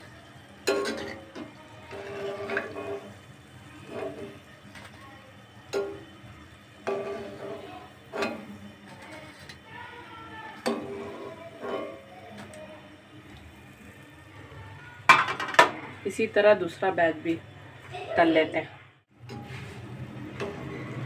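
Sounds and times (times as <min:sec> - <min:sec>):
oil sizzling: 0:00.0 - 0:21.0.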